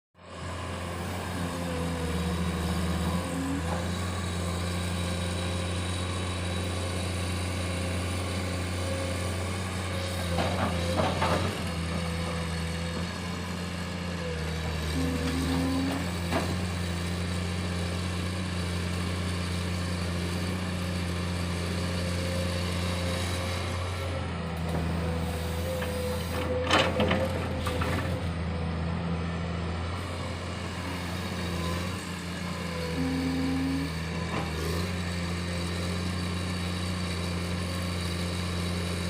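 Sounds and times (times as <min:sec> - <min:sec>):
diesel engine running: 0:00.2 - 0:39.0.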